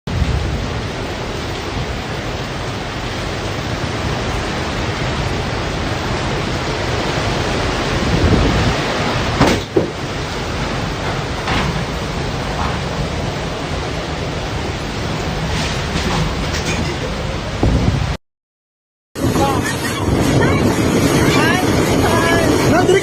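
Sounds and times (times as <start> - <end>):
strong wind and rain: 0.1 - 18.2, 19.2 - 23.0.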